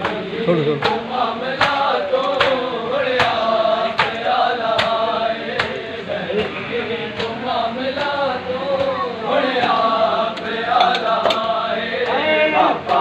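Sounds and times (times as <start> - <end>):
men chanting a slow lament: 0.0 - 13.0.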